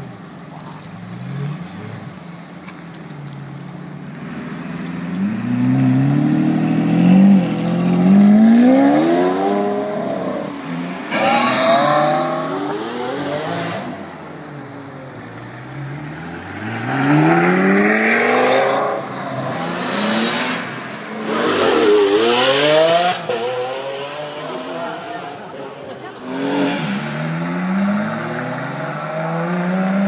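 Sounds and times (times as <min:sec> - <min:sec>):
sports car engines revving: 0:00.0 - 0:30.0.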